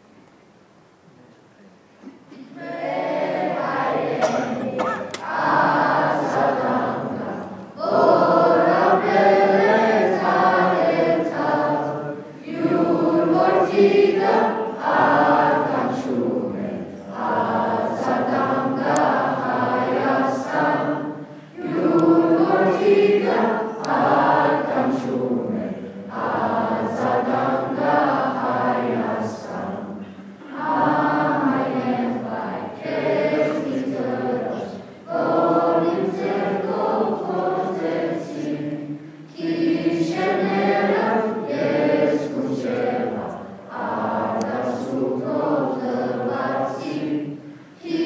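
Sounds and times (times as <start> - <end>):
choir singing: 2.3 - 48.0.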